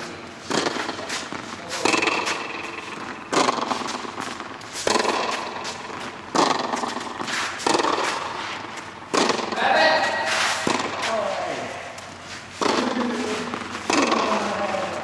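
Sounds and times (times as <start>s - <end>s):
racquet hitting tennis ball: 0.0s - 15.0s.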